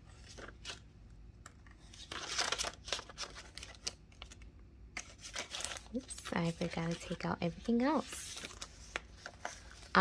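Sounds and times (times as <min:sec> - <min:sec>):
banknotes rustling and flicking: 0:01.6 - 0:10.0.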